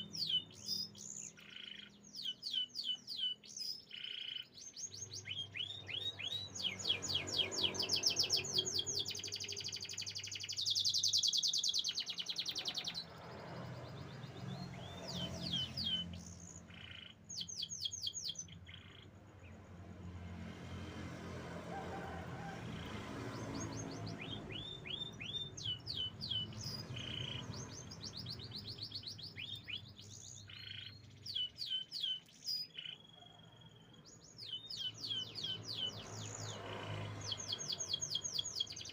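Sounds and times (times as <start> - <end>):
canary singing trills: 0.0 - 19.6, 22.7 - 38.9.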